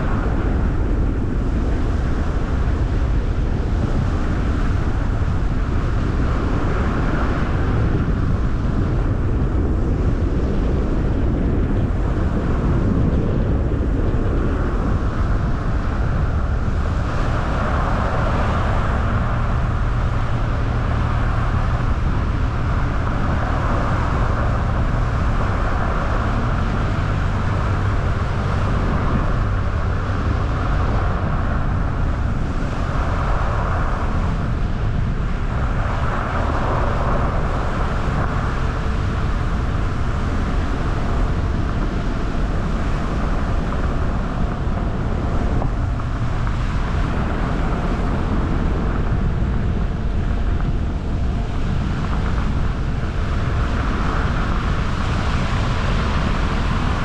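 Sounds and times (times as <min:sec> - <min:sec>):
tyres rumbling on road: 0:00.0 - 0:57.0
wind noise: 0:00.0 - 0:57.0.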